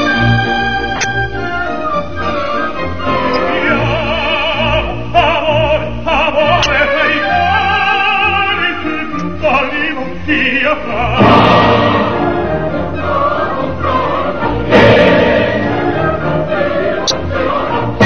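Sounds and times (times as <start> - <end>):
operatic singing with vibrato: 1.6 - 18.0.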